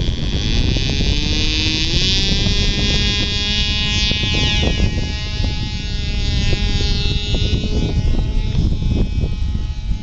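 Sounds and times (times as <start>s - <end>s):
model airplane engine buzzing: 0.0s - 10.0s.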